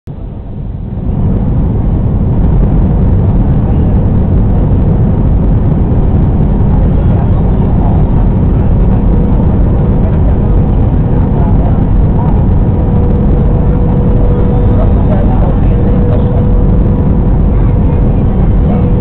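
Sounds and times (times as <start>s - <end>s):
airflow around fuselage: 0.1s - 19.0s
jet engine cabin rumble: 0.1s - 19.0s.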